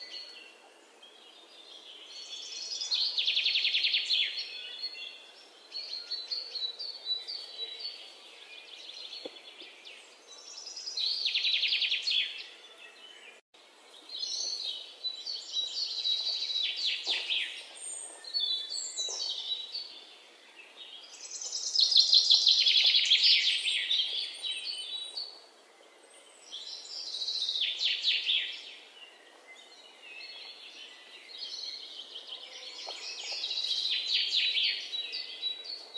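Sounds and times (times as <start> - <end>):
birds chirping and trilling: 0.0 - 35.9.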